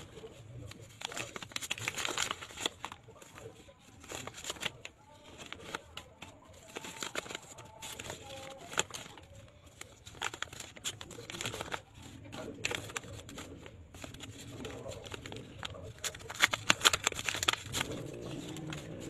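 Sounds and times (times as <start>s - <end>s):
paper envelopes and banknotes rustling: 0.0s - 19.0s.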